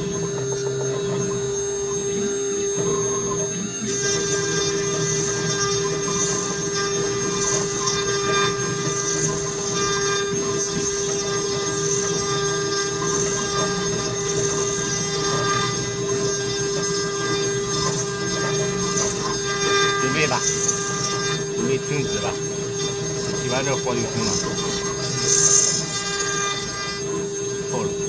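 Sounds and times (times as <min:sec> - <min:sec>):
router spindle whine: 0:00.0 - 0:28.0
cutter rasping wood: 0:02.6 - 0:28.0.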